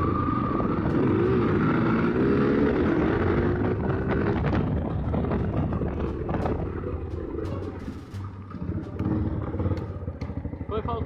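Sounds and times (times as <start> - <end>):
wind noise on microphone: 0.0 - 9.7
motorcycle engine revving: 0.0 - 11.0.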